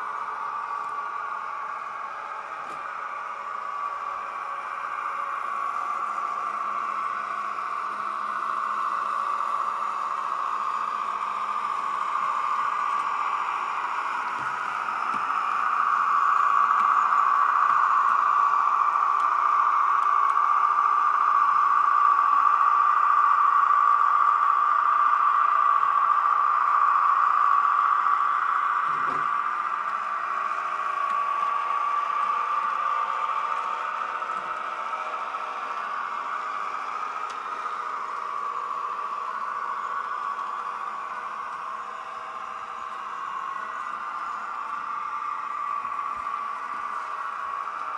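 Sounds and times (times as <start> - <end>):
model tram motor drone: 0.0 - 47.9.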